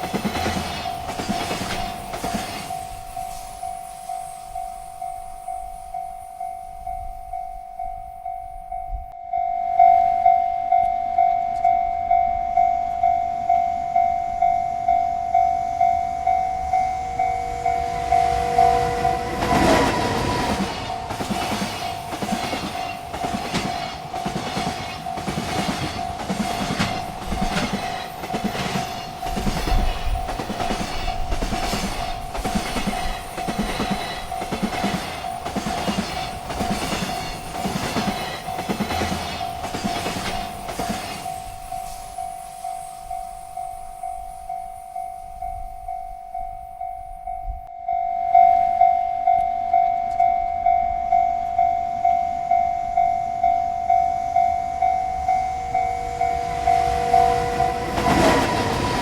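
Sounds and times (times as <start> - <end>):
train wheels clicking on rails: 0.0 - 8.9, 10.8 - 47.0, 49.3 - 59.0
freight train passing: 0.0 - 59.0
railroad crossing bell ringing: 0.0 - 59.0.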